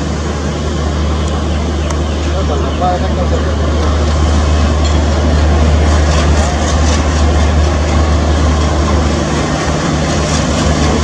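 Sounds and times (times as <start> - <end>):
coaches rumbling on rails: 0.0 - 11.0
locomotive engine drone: 0.0 - 11.0.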